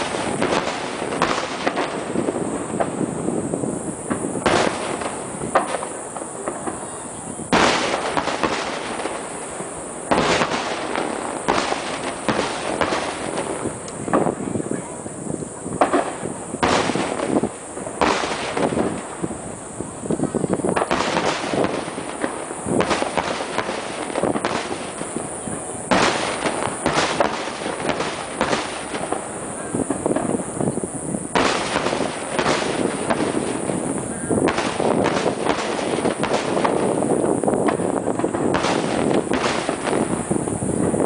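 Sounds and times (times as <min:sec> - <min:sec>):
firework shells bursting: 0:00.0 - 0:41.0.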